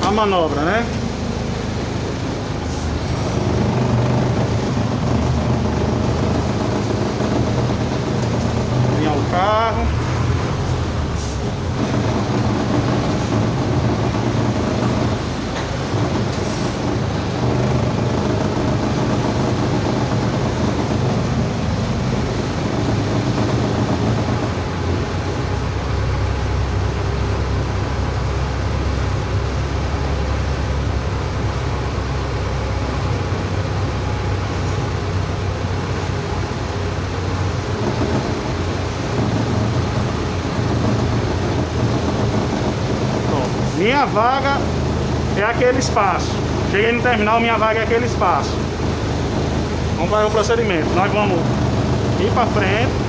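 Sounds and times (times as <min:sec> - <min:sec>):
bus diesel engine running: 0:00.0 - 0:53.0.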